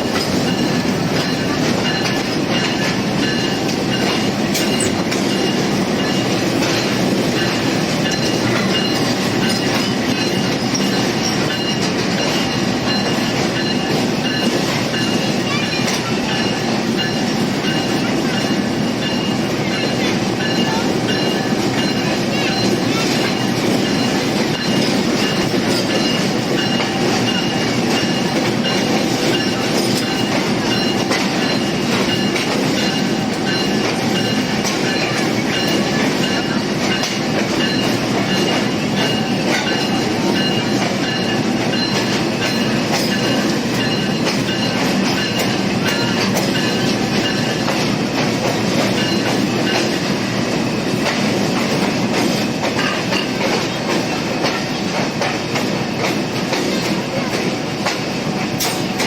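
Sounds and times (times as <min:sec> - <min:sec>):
thin high steady tones: 0:00.0 - 0:54.9
train wheels rumbling on rails: 0:00.0 - 0:59.0.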